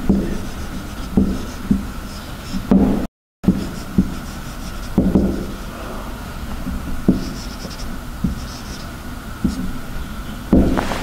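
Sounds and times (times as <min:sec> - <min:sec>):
marker writing on whiteboard: 0:00.0 - 0:09.8.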